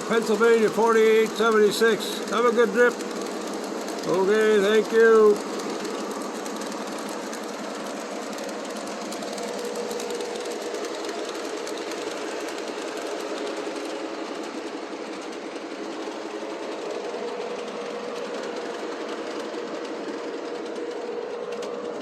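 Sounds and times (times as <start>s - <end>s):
model train motor whine: 0.0s - 22.0s
wheel clicks on track: 0.0s - 22.0s.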